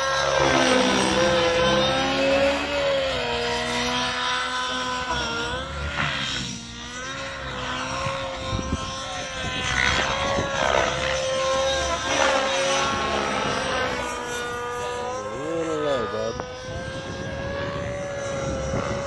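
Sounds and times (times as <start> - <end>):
model helicopter engine: 0.0 - 19.0
rotor blade whooshes: 0.0 - 19.0.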